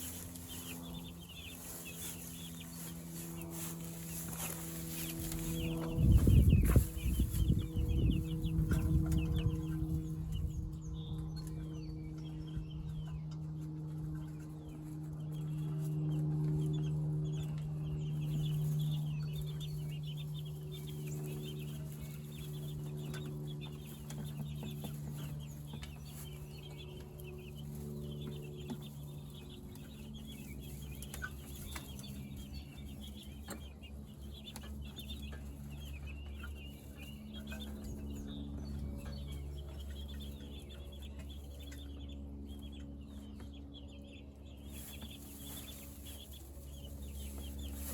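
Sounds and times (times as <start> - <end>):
chickens peeping and clucking: 0.0 - 47.9
steady low hum: 0.0 - 47.9.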